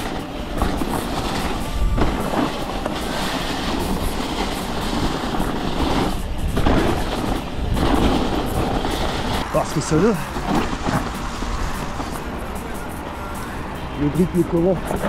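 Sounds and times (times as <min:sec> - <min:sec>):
bike rattling over bumps: 0:00.0 - 0:13.0
wind noise on microphone: 0:00.0 - 0:14.0
bike tyres rumbling: 0:00.0 - 0:15.0.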